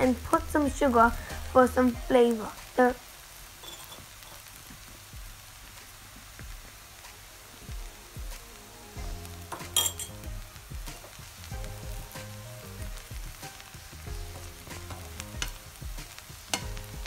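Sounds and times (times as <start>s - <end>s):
light sizzle: 0.0s - 17.0s.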